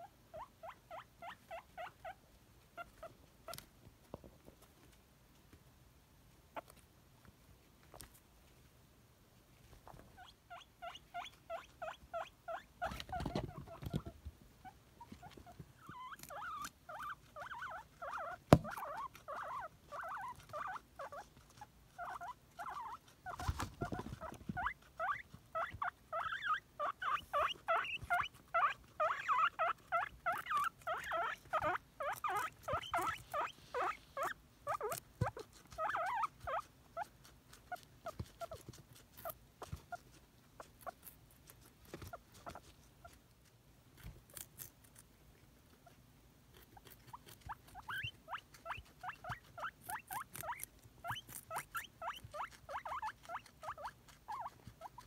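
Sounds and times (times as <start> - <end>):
guinea pig squeaking: 0.0 - 3.8, 6.5 - 6.8, 9.7 - 55.0.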